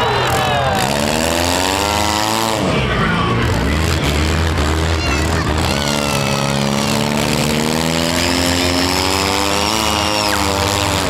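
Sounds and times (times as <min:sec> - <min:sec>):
car engine revving hard: 0:00.0 - 0:11.0
low rumble of other engines: 0:00.0 - 0:11.0.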